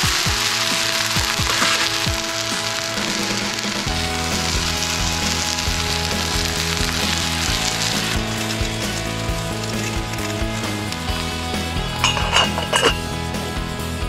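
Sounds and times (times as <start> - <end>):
potatoes sizzling in oil: 0.0 - 13.6.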